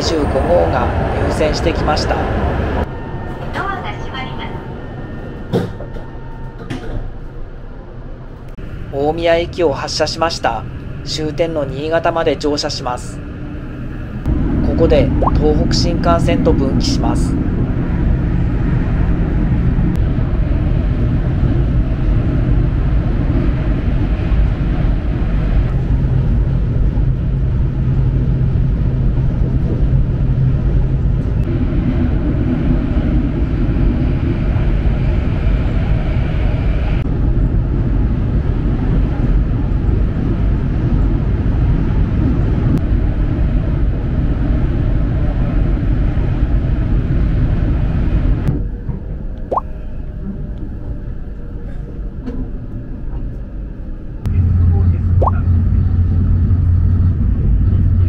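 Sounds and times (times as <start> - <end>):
train rumbling inside cabin: 0.0 - 58.0.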